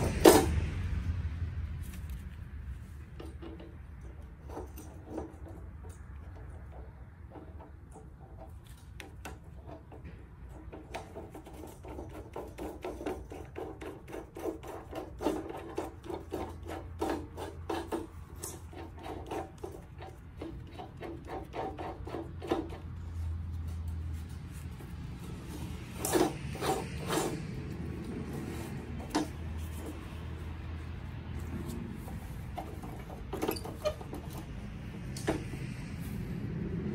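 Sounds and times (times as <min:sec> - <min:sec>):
glove rubbing on metal: 0:01.9 - 0:36.9.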